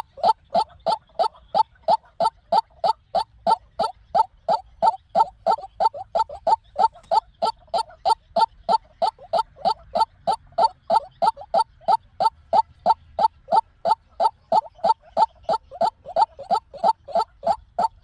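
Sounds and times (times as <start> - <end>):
bird calling repeated notes: 0.0 - 18.0.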